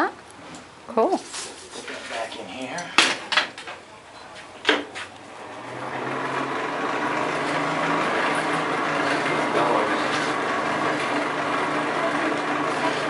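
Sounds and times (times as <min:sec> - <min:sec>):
forge blower humming: 0:02.5 - 0:13.0.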